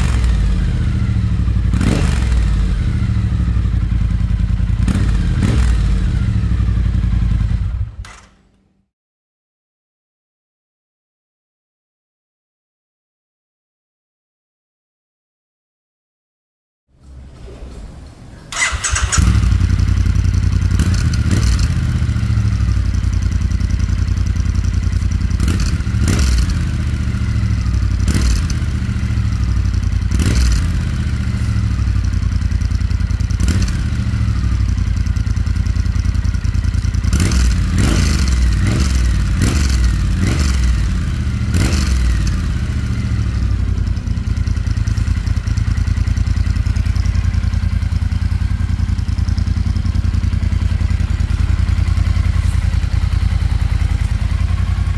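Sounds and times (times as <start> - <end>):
motorcycle engine starting and revving: 0.0 - 8.9, 18.4 - 54.9.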